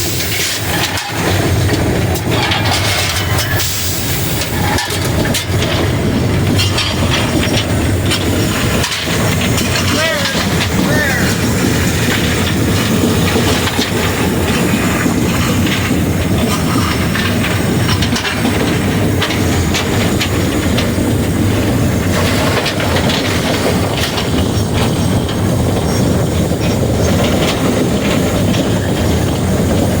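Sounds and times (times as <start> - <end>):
steam locomotive rumble and rattle: 0.0 - 30.0
wheels clicking on track: 0.0 - 30.0.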